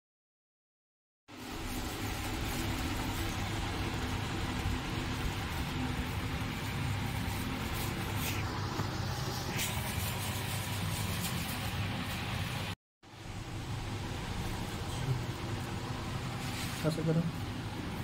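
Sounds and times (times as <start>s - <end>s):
low mechanical hum: 1.3s - 18.0s
noisy hiss: 1.3s - 18.0s.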